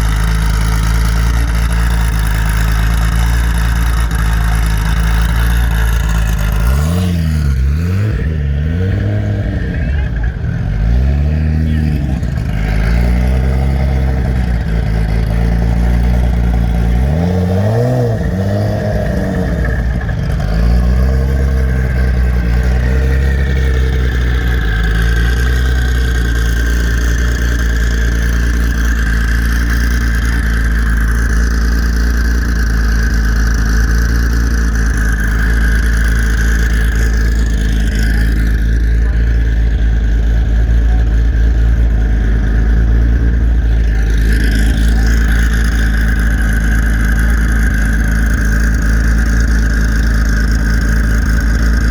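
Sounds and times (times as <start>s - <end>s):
car engine idling and blipping: 0.0s - 51.9s.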